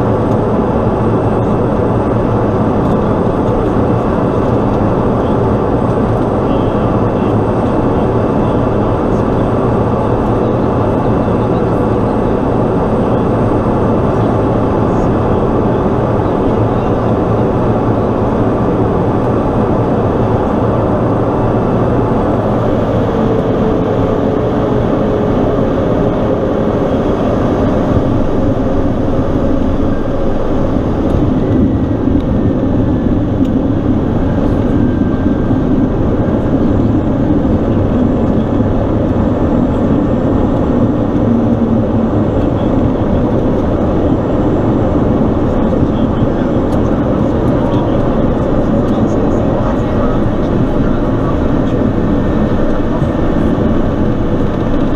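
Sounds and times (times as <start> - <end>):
propeller engine drone: 0.0 - 54.9.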